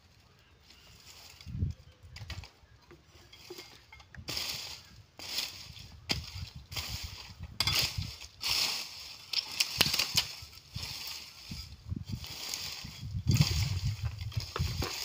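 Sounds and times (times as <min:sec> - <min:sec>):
rustling scraping in soil: 0:00.0 - 0:15.0.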